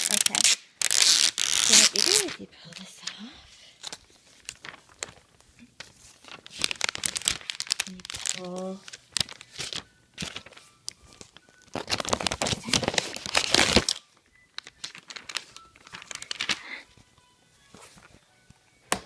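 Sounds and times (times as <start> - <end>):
plastic packaging crinkling and tearing: 0.0 - 3.2, 3.8 - 16.8.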